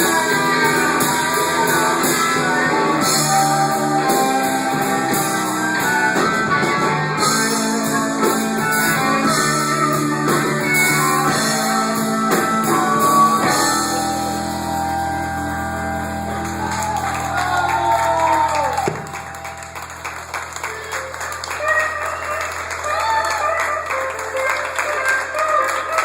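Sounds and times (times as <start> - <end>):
drum kit: 0.0 - 23.1
guitar: 0.0 - 26.0.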